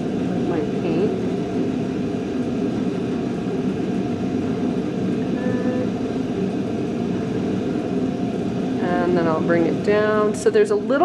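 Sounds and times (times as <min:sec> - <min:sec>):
low classroom rumble: 0:00.0 - 0:11.0.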